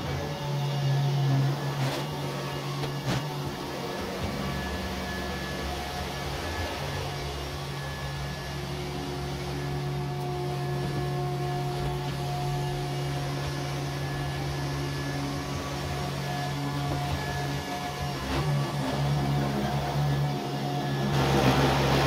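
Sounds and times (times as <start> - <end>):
robot vacuum motor hum: 0.0 - 22.0.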